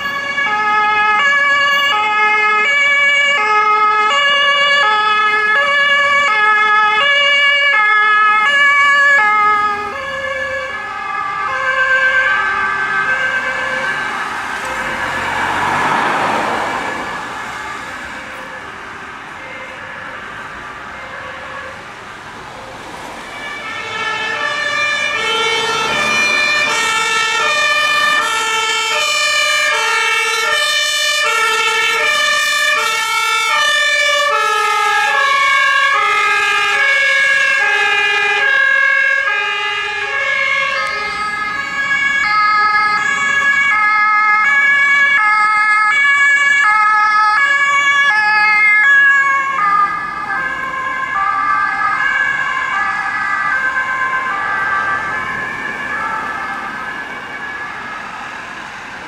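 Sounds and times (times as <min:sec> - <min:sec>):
two-tone emergency sirens: 0:00.0 - 0:59.0.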